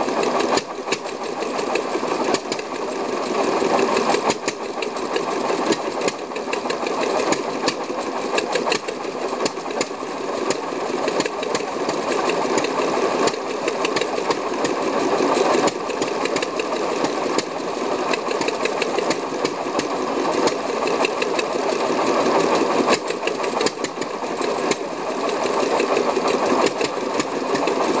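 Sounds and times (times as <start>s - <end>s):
stationary engine clattering: 0.0s - 28.0s.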